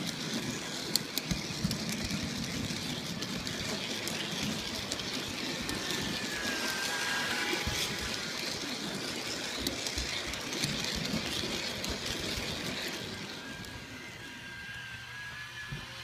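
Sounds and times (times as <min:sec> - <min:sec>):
faint electric motor whine: 0:00.0 - 0:16.0
model train wheels rushing on rails: 0:00.0 - 0:16.0.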